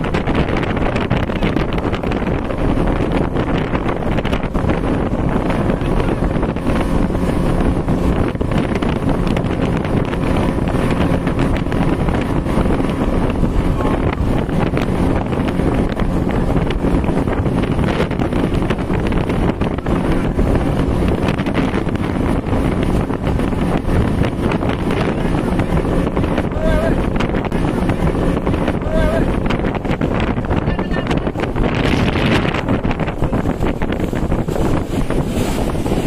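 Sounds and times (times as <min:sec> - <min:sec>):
outboard motors running: 0:00.0 - 0:36.0
wind buffeting microphone: 0:00.0 - 0:36.0.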